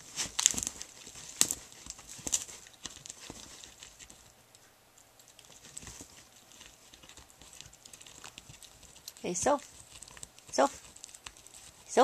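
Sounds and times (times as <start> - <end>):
puppy chewing cardboard: 0.0 - 12.0.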